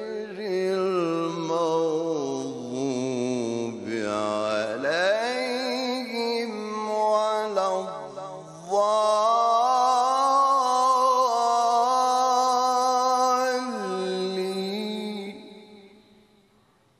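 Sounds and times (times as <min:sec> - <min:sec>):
man chanting recitation: 0:00.0 - 0:15.9.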